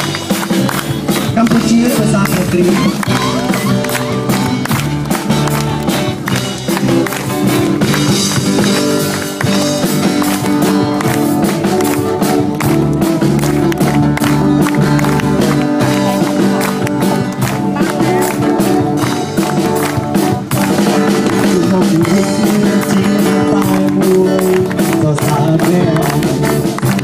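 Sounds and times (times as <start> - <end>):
drum kit beat: 0.0 - 27.0
electric guitars: 0.0 - 27.0
live rock band playing: 0.0 - 27.0.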